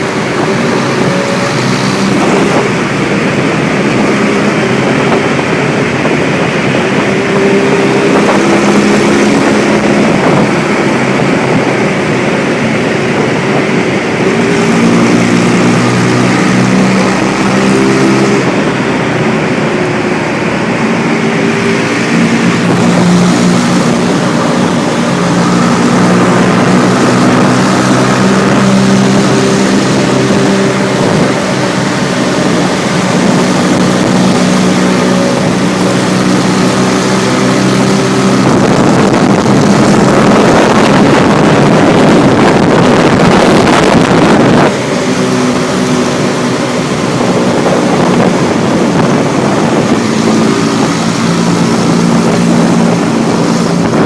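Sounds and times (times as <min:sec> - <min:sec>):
motorbike engine running: 0:00.0 - 0:54.0
steady rushing noise: 0:00.0 - 0:54.0.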